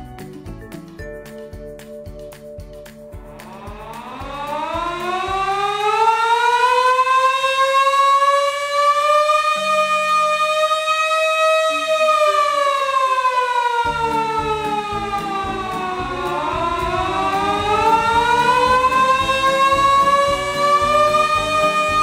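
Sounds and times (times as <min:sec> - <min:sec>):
background music: 0:00.0 - 0:22.0
motor-driven warning siren wailing: 0:03.4 - 0:22.0.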